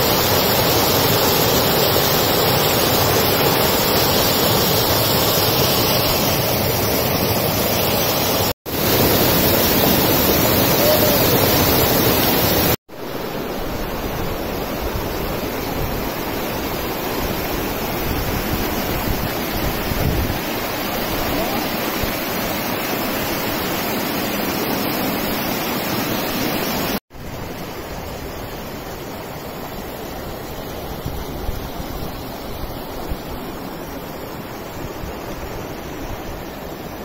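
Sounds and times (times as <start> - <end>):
water rushing over rocks: 0.0 - 37.0.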